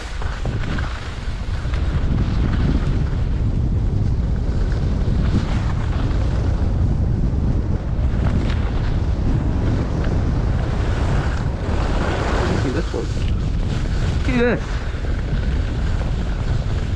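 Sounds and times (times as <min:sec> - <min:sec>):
skis sliding on snow: 0:00.0 - 0:16.9
wind buffeting microphone: 0:00.0 - 0:16.9.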